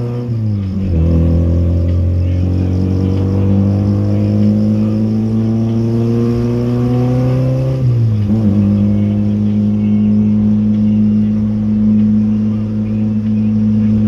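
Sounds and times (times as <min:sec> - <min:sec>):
car engine droning while driving: 0:00.0 - 0:14.0.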